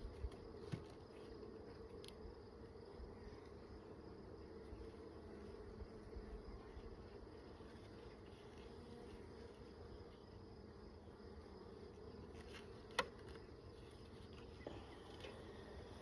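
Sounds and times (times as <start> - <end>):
bees humming: 2.6 - 16.0.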